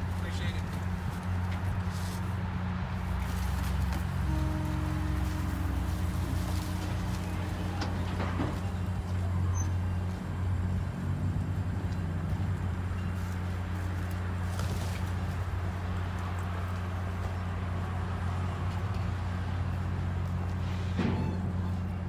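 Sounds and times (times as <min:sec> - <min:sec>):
diesel train idling drone: 0:00.0 - 0:22.0.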